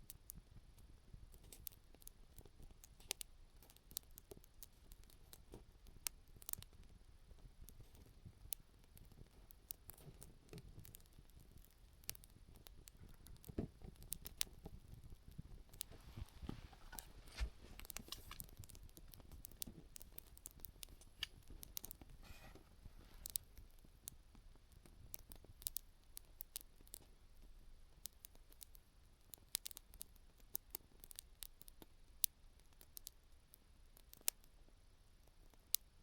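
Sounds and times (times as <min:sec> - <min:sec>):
campfire crackling: 0:00.0 - 0:34.6.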